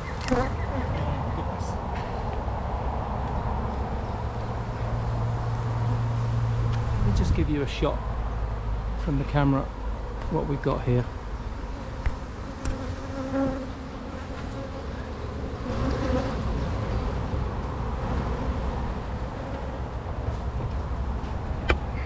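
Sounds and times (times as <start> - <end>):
honey bees buzzing: 0.0 - 7.0, 9.7 - 16.6, 17.4 - 22.0.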